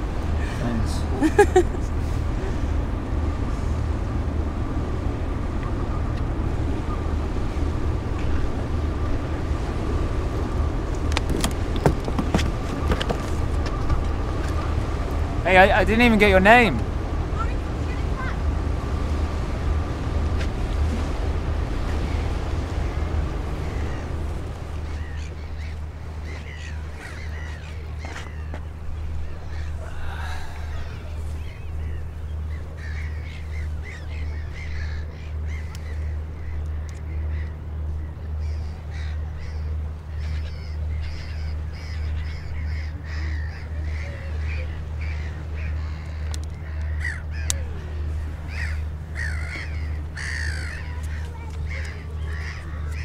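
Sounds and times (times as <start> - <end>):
birds calling: 0.0 - 53.0
low pulsing hum: 0.0 - 53.0.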